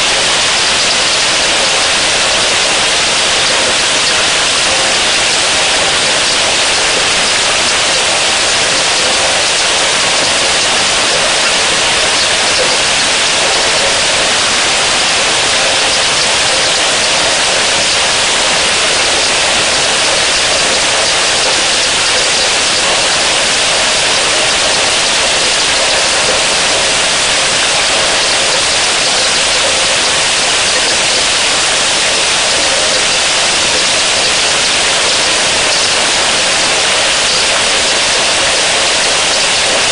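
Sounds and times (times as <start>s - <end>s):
heavy rain on pond: 0.0s - 39.9s.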